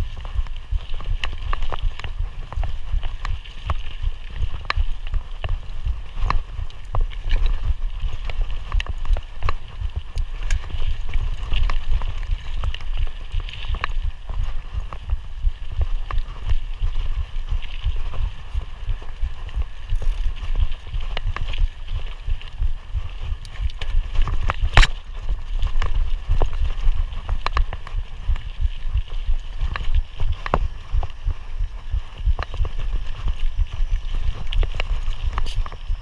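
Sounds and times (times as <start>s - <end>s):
bike rattling and clicking: 0.0s - 36.0s
wind rumble on microphone: 0.0s - 36.0s.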